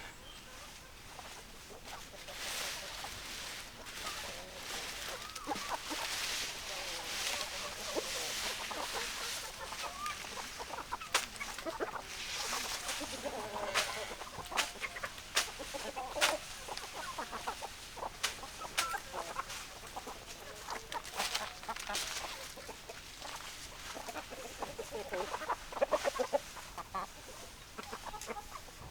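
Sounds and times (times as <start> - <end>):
hens clucking: 0.0 - 28.9.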